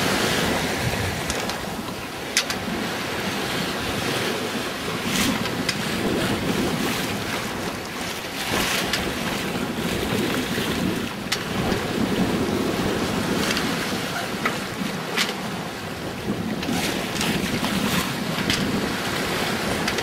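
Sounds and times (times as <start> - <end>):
waves washing along hull: 0.0 - 20.0
wind blowing across microphone: 0.0 - 20.0.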